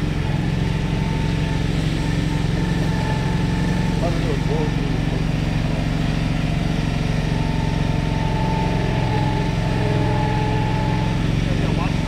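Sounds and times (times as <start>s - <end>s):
faint steady whine: 0.0s - 12.0s
machine engine running: 0.0s - 12.0s.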